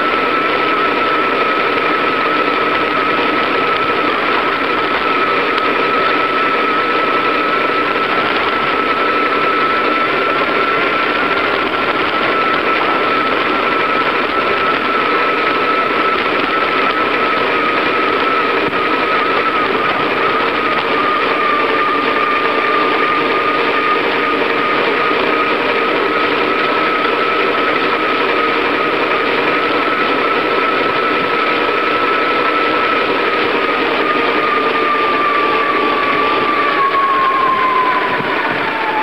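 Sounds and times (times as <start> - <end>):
bicycle whirring: 0.0 - 39.0
thin high whine: 0.0 - 39.0.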